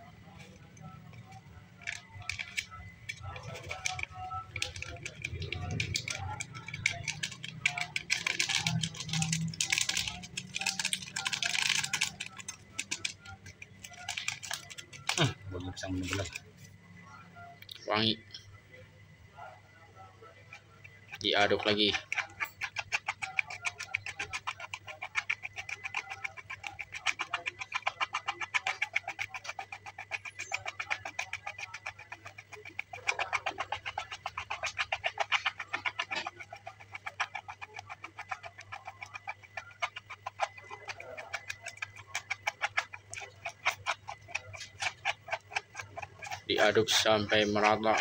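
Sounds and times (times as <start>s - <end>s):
plastic spoon scraping bowl: 0.0s - 16.8s, 20.5s - 48.0s.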